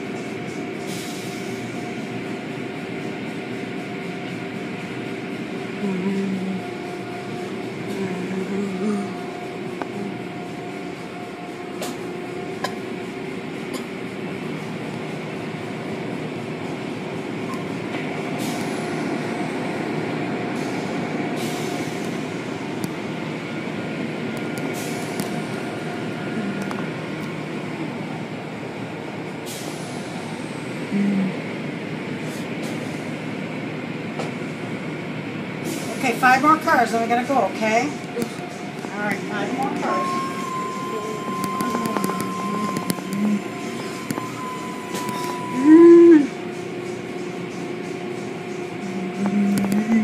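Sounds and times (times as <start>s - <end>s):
car wash machinery running: 0.0s - 50.0s.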